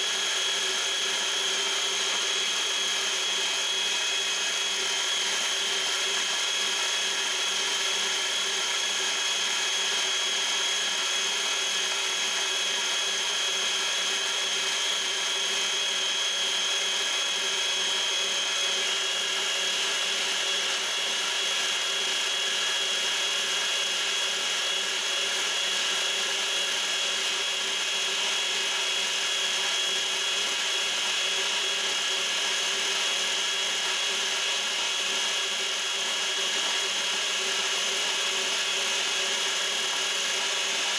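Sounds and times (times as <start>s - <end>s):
stand mixer motor running: 0.0s - 40.9s.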